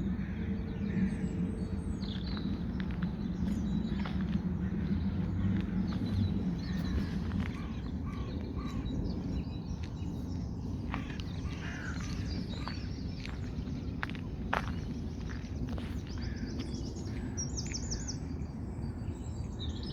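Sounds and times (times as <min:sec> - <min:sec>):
low background rumble: 0:00.0 - 0:19.8
birds calling and chirping: 0:00.0 - 0:19.9.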